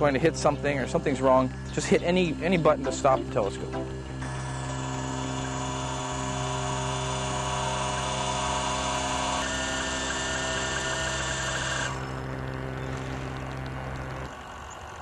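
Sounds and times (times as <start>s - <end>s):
telescope mount motors whining: 0.0s - 15.0s.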